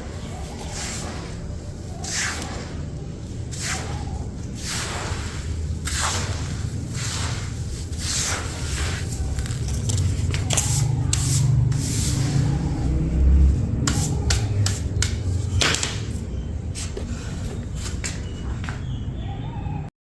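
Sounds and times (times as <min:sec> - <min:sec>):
low rumble: 0:00.0 - 0:17.9
hand scraping crumbly material: 0:00.0 - 0:18.4.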